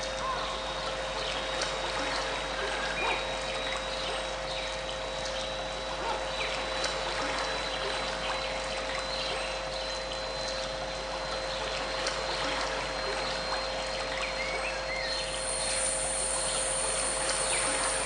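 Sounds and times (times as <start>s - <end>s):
stream water trickling: 0.0s - 18.0s.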